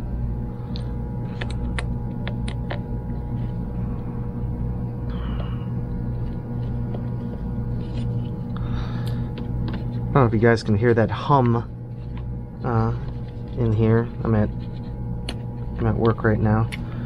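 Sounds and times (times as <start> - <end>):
transformer electrical hum: 0.0 - 17.0.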